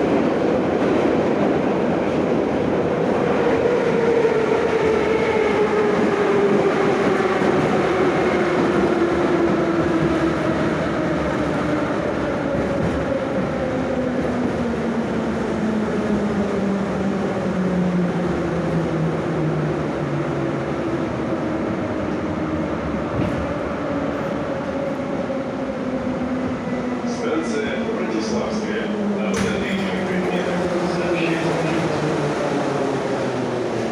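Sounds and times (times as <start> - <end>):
train wheels rumbling on track: 0.0 - 25.4, 26.4 - 33.9.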